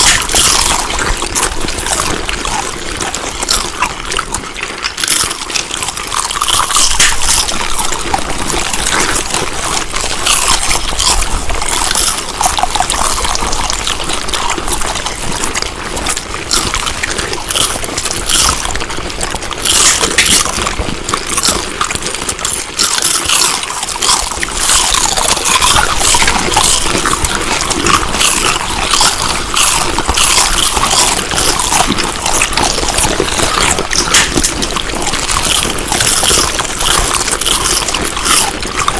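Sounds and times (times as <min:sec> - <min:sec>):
chewing food: 0:00.0 - 0:38.9.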